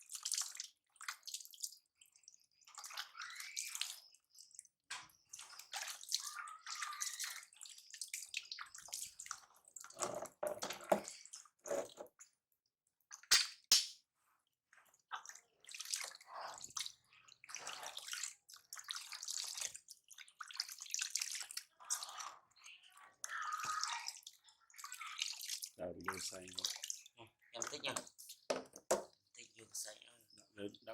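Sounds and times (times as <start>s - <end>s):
water splashing and trickling: 0.0s - 12.4s, 14.8s - 30.9s.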